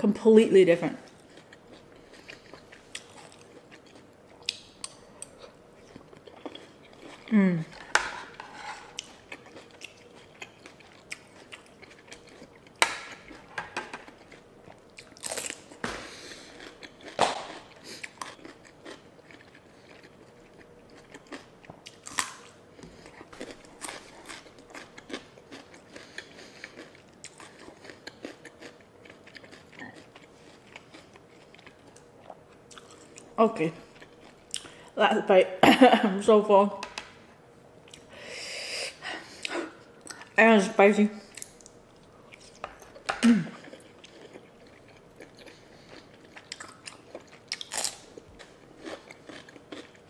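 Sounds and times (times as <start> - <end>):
close chewing and biting: 1.1 - 7.8, 8.9 - 14.4, 15.0 - 34.7, 41.3 - 50.0.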